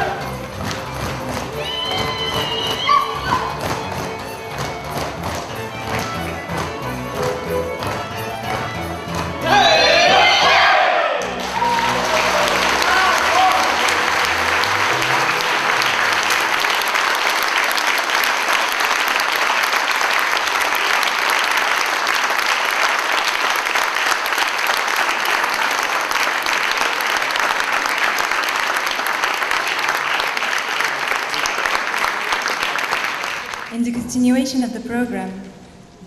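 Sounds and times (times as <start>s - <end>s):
audience applauding: 0.0s - 33.8s.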